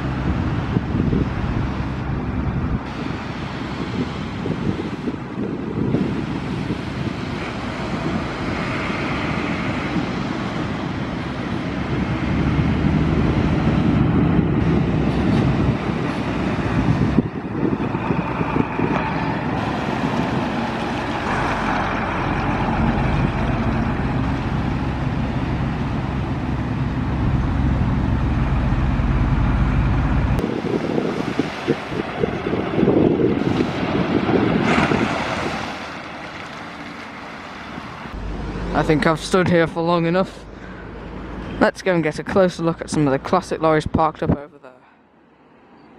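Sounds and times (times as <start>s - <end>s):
diesel truck engines driving by: 0.0s - 43.9s
wind buffeting microphone: 0.0s - 44.4s.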